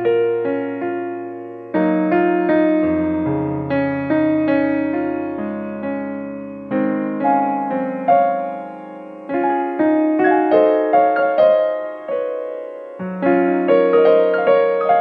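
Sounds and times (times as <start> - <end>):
gentle solo piano music: 0.0 - 15.0.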